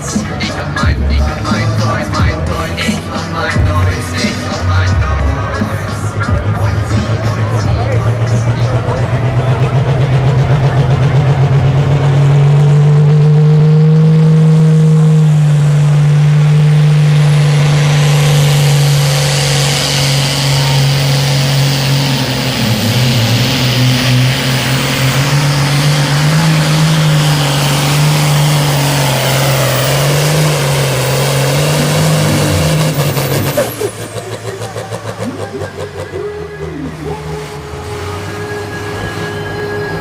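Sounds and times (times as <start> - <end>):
diesel engine revving under load: 0.0 - 40.0.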